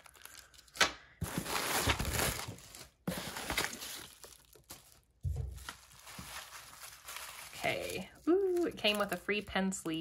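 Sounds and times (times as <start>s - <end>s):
plastic packing crinkling: 0.0s - 9.5s.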